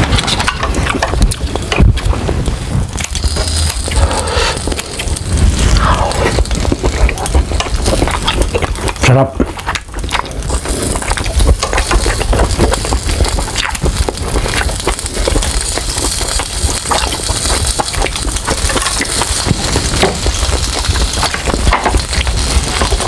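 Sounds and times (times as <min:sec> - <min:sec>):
meat sizzling on a grill: 0:00.6 - 0:23.0.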